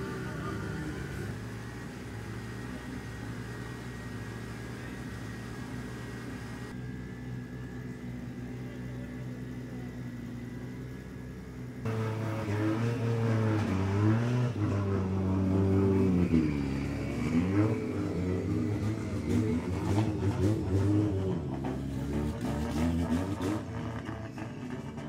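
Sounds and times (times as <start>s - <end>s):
car engine idling: 0.0s - 13.7s, 14.8s - 25.0s
car engine revving: 0.0s - 25.0s.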